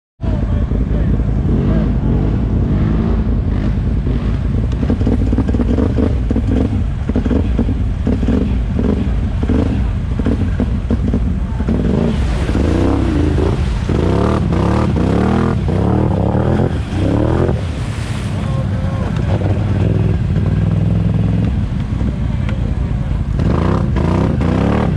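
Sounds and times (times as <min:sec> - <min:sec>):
atv engines revving: 0:00.2 - 0:24.9.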